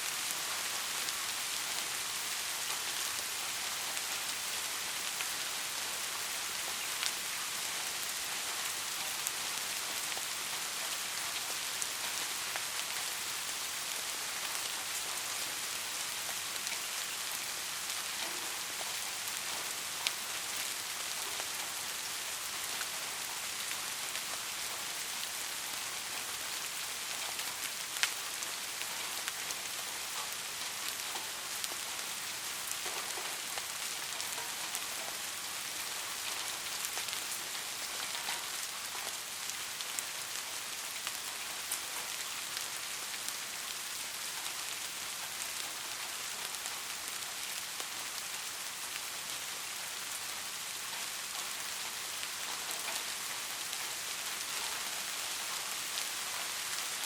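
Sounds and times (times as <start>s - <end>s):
soft rain hiss: 0.0s - 57.0s.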